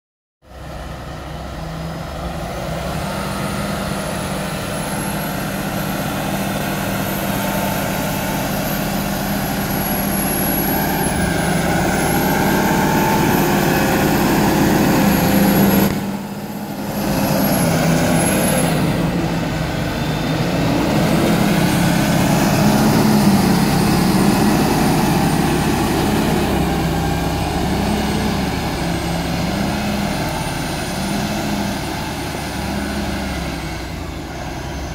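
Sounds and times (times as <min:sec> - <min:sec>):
tractor diesel engine under load: 0:00.4 - 0:34.9.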